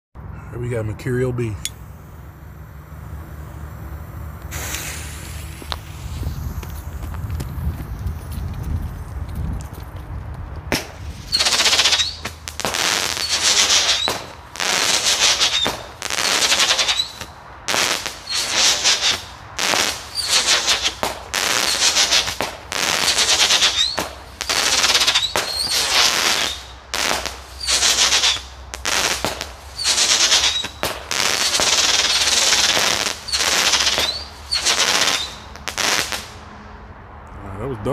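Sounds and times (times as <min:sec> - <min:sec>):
firework shots hissing bursts: 0:01.7 - 0:07.6, 0:10.7 - 0:36.4.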